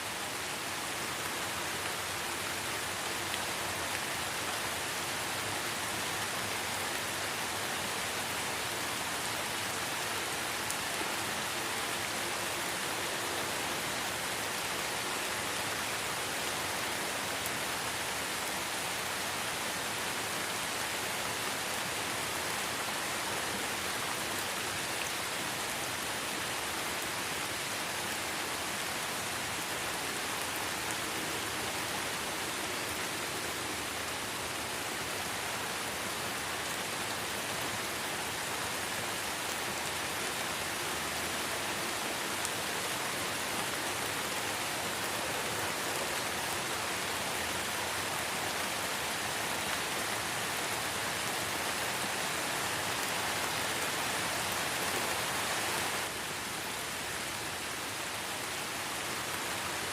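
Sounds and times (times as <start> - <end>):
light rain on leaves: 0.0 - 59.9.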